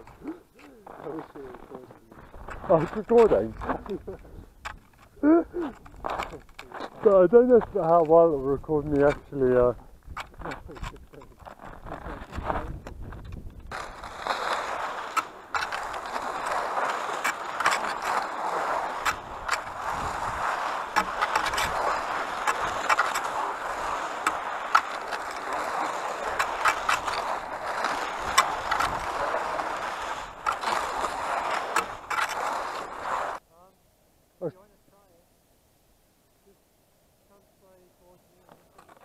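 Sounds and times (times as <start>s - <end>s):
ski clicks and knocks: 0.0s - 33.4s, 37.6s - 39.0s
skis scraping on snow: 0.0s - 33.4s, 37.3s - 39.0s.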